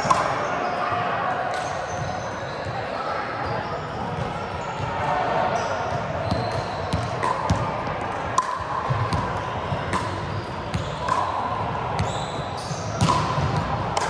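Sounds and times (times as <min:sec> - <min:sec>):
sneaker squeaks: 0:00.0 - 0:07.7, 0:08.9 - 0:13.8
volleyballs hit and bouncing: 0:00.0 - 0:14.0.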